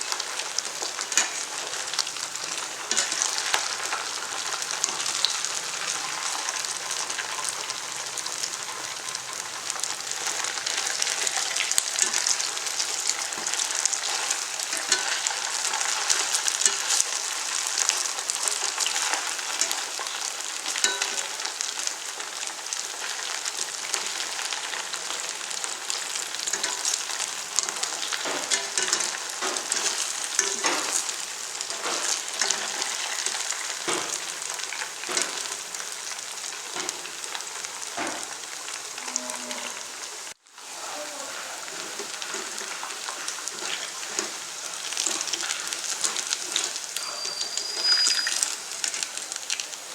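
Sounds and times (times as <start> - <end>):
food sizzling in hot oil: 0.0 - 49.9.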